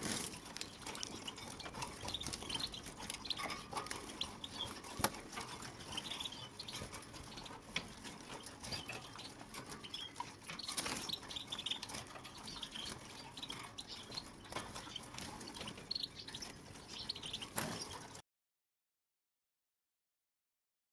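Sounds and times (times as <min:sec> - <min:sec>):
goldfinches twittering: 0:00.0 - 0:18.2.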